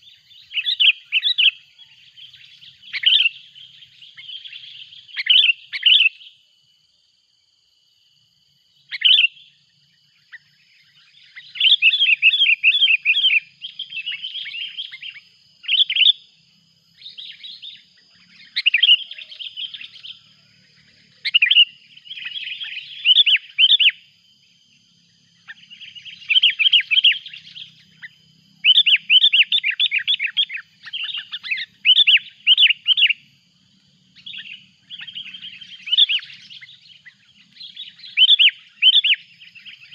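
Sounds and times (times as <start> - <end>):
bulbul chattering calls: 0.0 - 6.3, 8.9 - 9.5, 10.2 - 16.2, 17.0 - 24.1, 25.4 - 33.3, 34.2 - 39.9
faint steady high tone: 0.0 - 6.8, 8.1 - 39.9.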